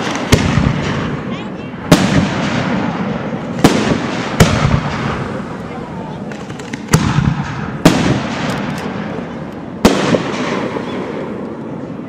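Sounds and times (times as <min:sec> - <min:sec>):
firework bangs with rolling echo: 0:00.0 - 0:12.0
firework crackles: 0:00.0 - 0:12.0.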